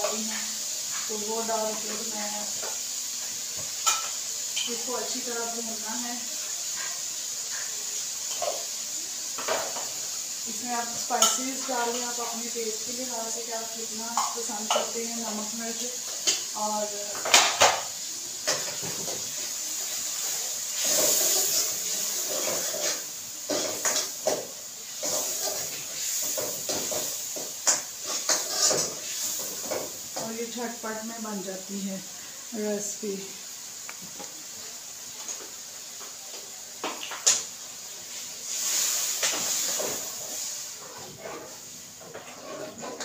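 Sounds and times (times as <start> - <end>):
masala sizzling in a pan: 0.0 - 43.0.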